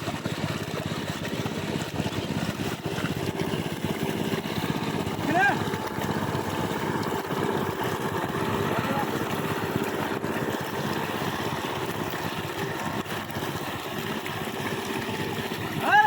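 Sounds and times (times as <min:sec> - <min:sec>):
small engine chugging: 0:00.0 - 0:16.0.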